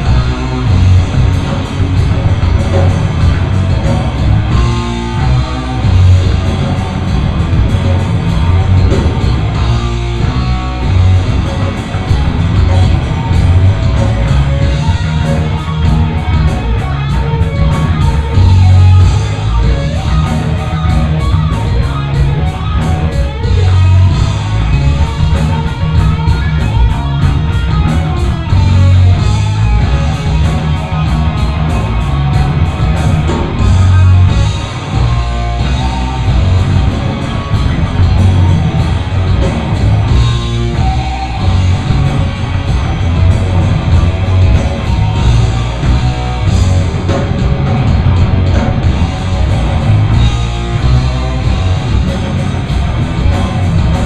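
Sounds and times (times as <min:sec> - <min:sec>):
bass guitar: 0:00.0 - 0:54.0
distorted electric guitar: 0:00.0 - 0:54.0
drums keeping a steady beat: 0:00.0 - 0:54.0.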